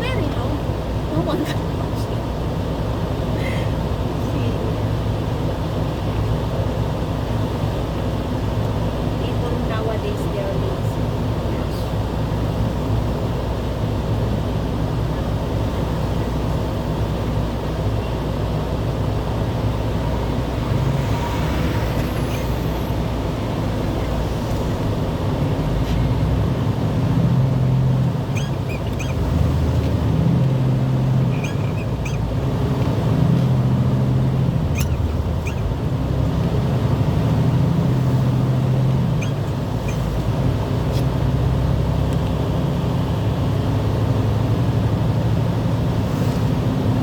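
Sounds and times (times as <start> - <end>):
road noise: 0.0 - 47.0
vehicle engine rumble: 0.0 - 47.0.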